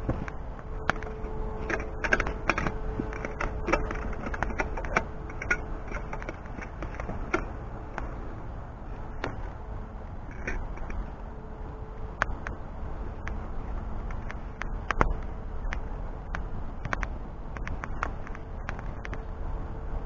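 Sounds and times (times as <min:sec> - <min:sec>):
low rush of fire: 0:00.0 - 0:20.0.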